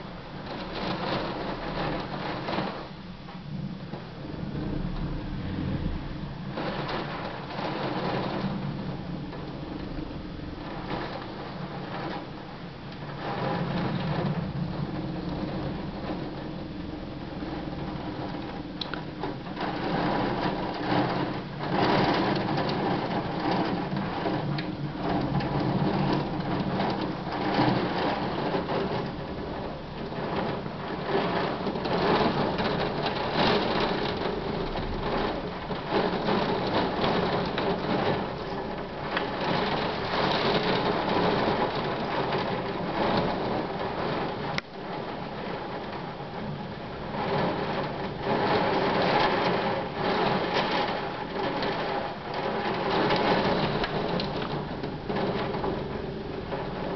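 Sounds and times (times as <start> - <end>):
heavy rain: 0.0 - 56.9.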